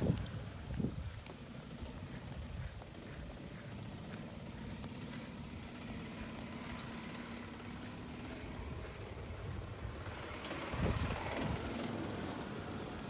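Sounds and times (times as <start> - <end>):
golf cart motor humming: 0.0 - 13.0.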